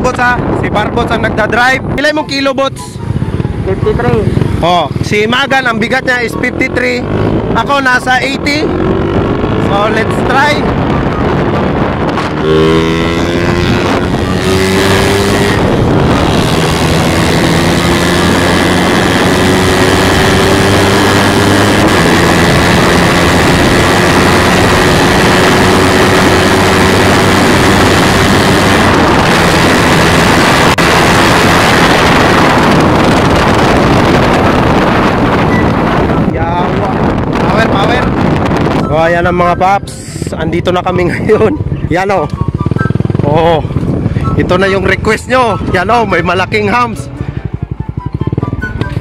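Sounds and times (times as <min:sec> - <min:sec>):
wind noise on microphone: 0:00.0 - 0:49.0
motorcycle engine: 0:01.8 - 0:49.0.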